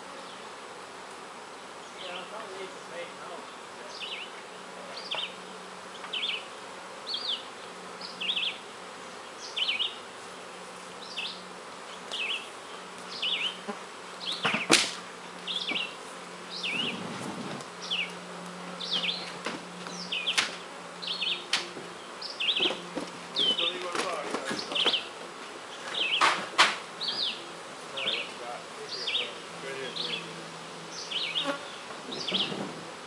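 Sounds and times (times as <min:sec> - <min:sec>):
honeybees buzzing: 0:00.0 - 0:33.0.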